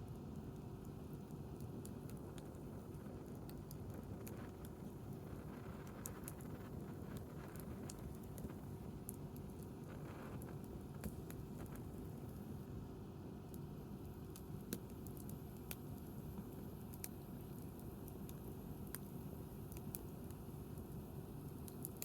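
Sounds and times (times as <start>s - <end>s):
campfire crackling and popping: 0.1s - 12.7s, 13.4s - 22.0s.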